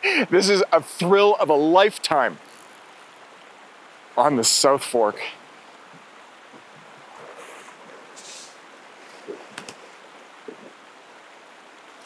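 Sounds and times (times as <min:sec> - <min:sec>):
quiet river water: 0:00.0 - 0:12.0.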